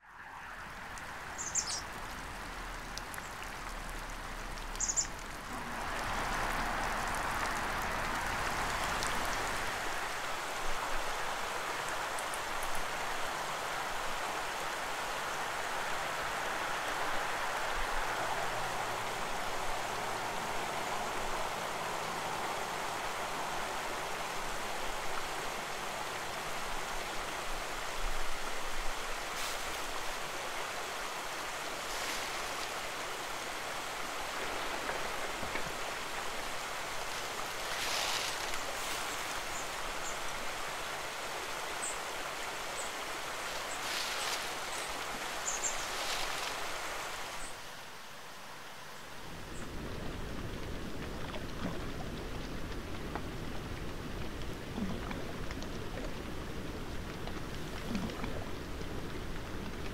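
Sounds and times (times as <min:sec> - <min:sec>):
river water rushing: 0:00.3 - 0:59.9.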